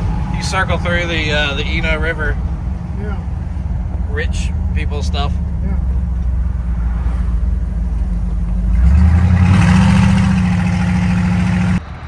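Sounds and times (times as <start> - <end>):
pickup truck engine running: 0.0 - 11.8
road noise: 0.0 - 12.0.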